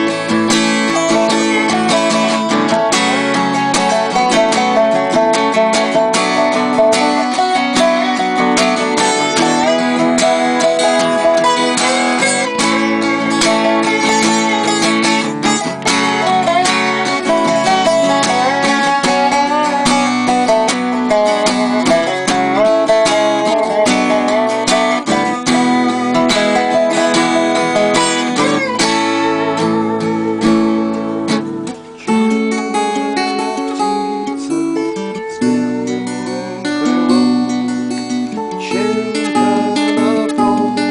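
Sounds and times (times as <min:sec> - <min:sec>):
acoustic guitar strumming: 0:00.0 - 0:40.9
slide guitar melody: 0:00.0 - 0:40.9.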